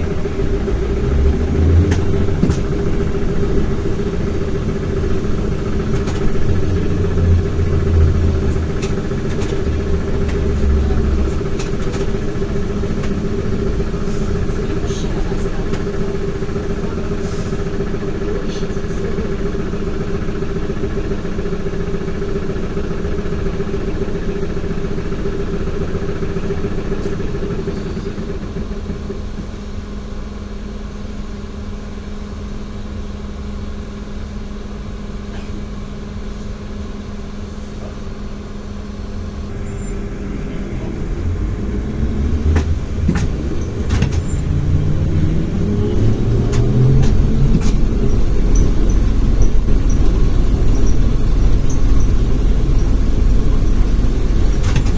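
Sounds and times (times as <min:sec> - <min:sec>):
trolleybus electric motor hum: 0:00.0 - 0:54.9.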